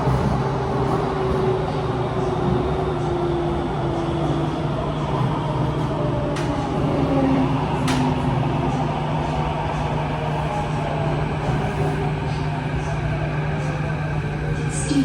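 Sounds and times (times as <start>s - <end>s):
metro train running: 0.0s - 15.0s.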